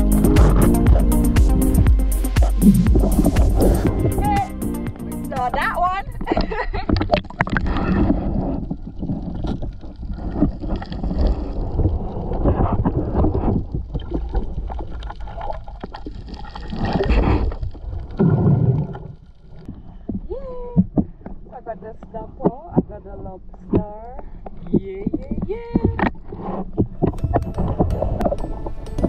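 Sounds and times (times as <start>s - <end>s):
muffled underwater sloshing: 0.0s - 29.0s.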